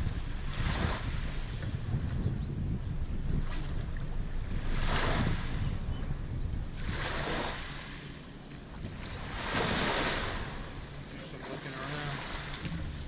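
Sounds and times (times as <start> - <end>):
small waves washing in: 0.0 - 2.2, 3.2 - 13.0
wind rumble on microphone: 0.0 - 13.0.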